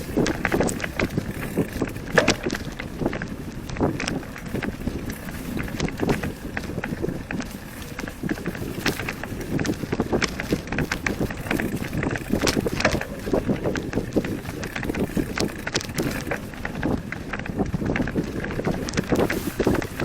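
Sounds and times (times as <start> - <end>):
knocks crunches and rattles: 0.0 - 20.0
low rumble of movement: 0.0 - 20.0
wind buffeting microphone: 0.0 - 20.0.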